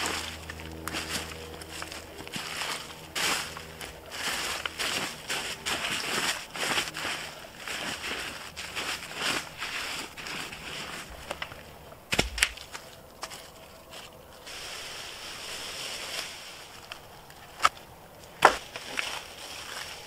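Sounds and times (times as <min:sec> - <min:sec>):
dead wood cracking: 0:00.0 - 0:14.4, 0:16.8 - 0:20.0
footsteps crunching dry leaves: 0:00.0 - 0:20.0.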